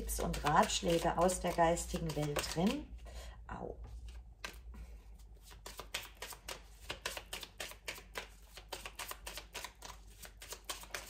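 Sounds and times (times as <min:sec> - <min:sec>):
cards being shuffled: 0:00.0 - 0:03.0, 0:03.9 - 0:11.0.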